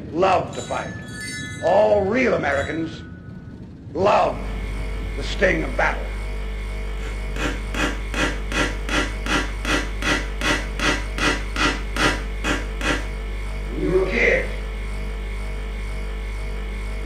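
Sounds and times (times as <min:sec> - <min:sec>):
steady low hum: 0:00.0 - 0:17.0
rasping pulse: 0:00.8 - 0:17.0.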